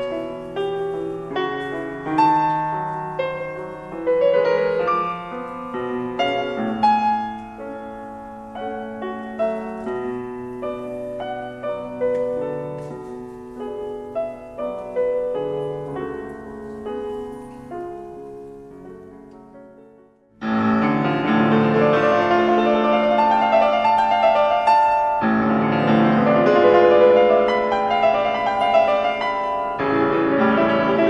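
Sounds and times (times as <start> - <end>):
classical piano music: 0.0 - 31.0.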